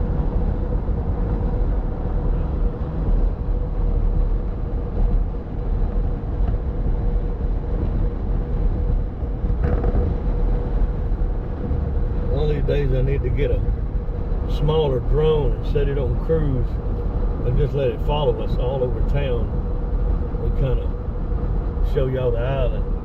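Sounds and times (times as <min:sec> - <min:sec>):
tyre and engine rumble: 0:00.0 - 0:23.0.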